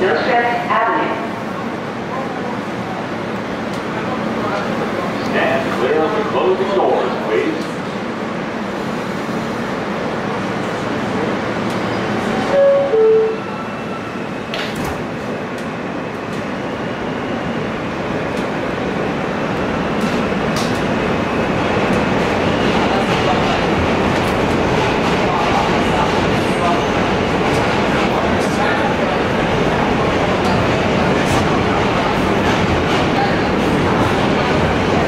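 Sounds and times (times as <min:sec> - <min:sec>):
subway train running noise: 0:00.0 - 0:35.0.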